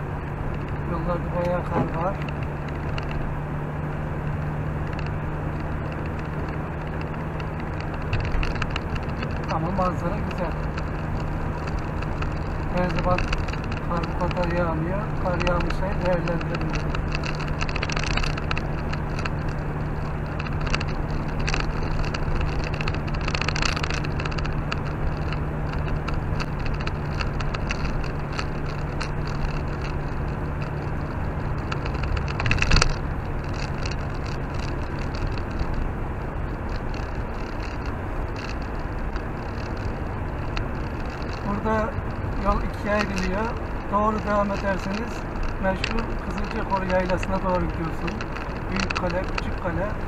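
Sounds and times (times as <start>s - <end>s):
car engine hum and road noise: 0.0s - 50.0s.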